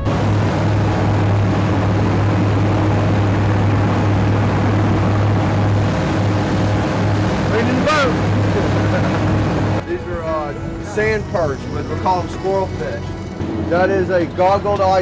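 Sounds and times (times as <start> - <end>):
wind rushing: 0.0 - 12.2
boat engine droning: 0.0 - 15.0
water rushing past hull: 0.0 - 15.0.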